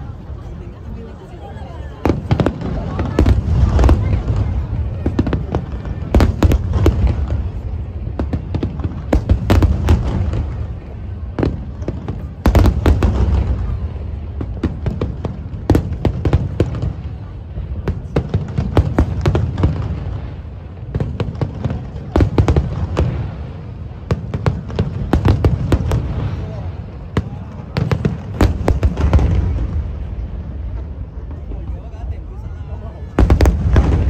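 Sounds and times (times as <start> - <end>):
fireworks bursting with sharp bangs: 0.0 - 34.0.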